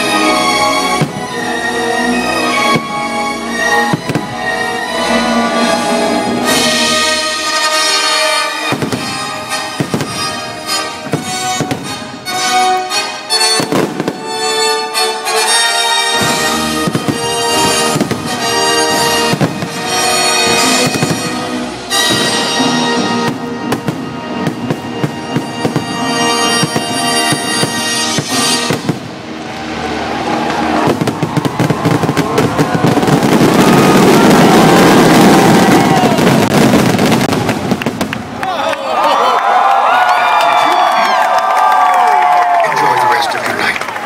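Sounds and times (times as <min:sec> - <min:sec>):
orchestral music: 0:00.0 - 0:38.4
fireworks bursting: 0:00.0 - 0:38.5.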